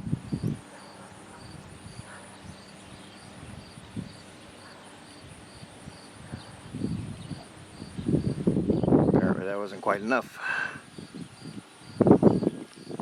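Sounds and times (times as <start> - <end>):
insects chirping: 0.0 - 13.0
steady high insect trill: 0.0 - 13.0.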